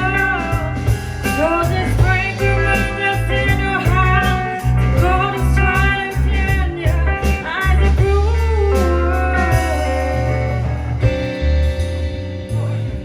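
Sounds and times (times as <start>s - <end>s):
person singing: 0.0s - 11.4s
bass guitar: 0.0s - 13.0s
drums: 0.0s - 13.0s
electric guitar: 0.0s - 13.0s.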